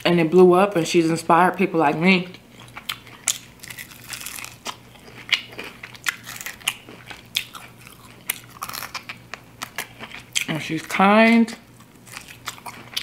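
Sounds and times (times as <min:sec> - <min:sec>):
crunching fried chicken: 0:02.5 - 0:13.0.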